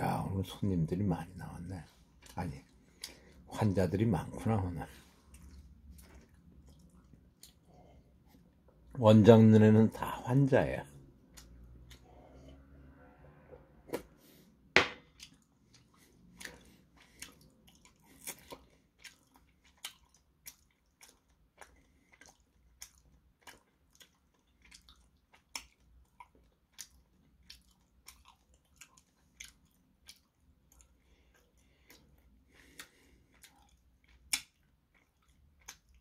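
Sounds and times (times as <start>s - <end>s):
person chewing food: 1.2s - 3.5s, 4.1s - 8.9s, 11.0s - 13.0s, 13.6s - 36.0s.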